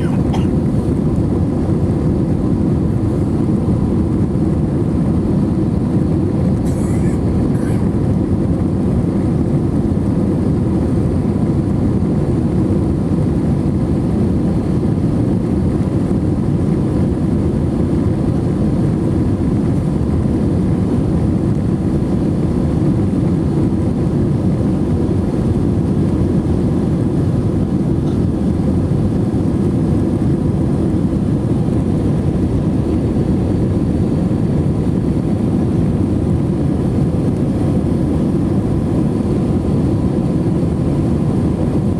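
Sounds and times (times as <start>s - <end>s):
aircraft cabin engine roar: 0.0s - 41.9s
airflow over fuselage: 0.0s - 41.9s.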